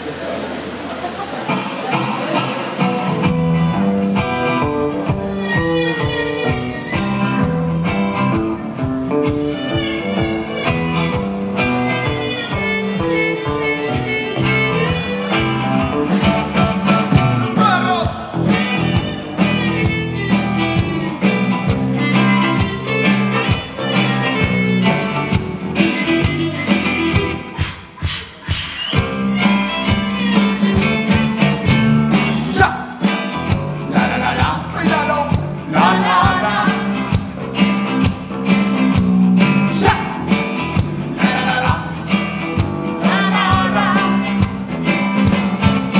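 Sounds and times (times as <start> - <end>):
guitar notes: 1.5 - 28.2, 28.8 - 45.9
rock band playing live: 1.5 - 45.9
drums: 1.6 - 45.9.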